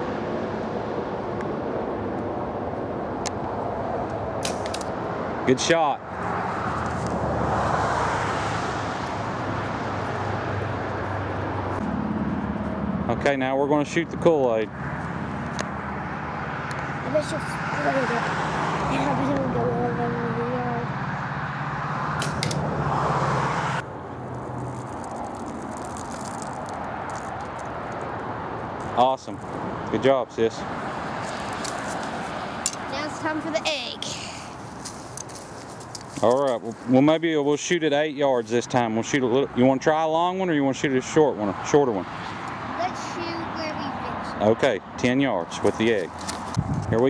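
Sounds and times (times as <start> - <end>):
distant engine noise: 0.0 - 47.0.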